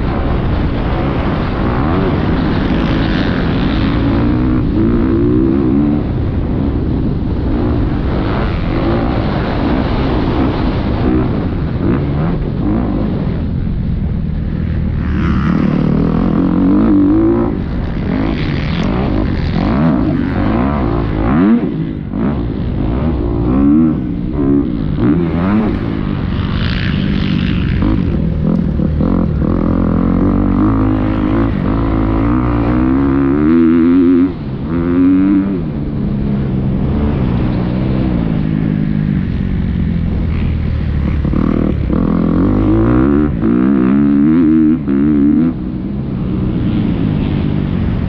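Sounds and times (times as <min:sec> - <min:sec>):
motocross bike engine revving: 0:00.0 - 0:13.6, 0:14.4 - 0:35.8, 0:40.1 - 0:45.6.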